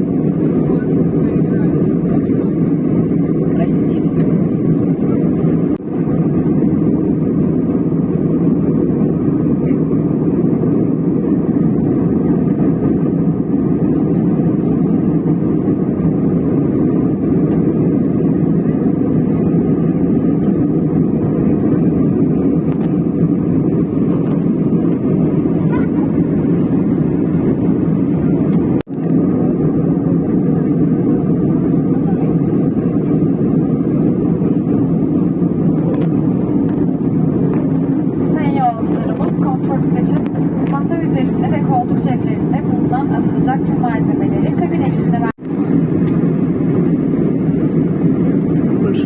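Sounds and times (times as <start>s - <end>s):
airliner cabin engine rush: 0.0s - 49.0s.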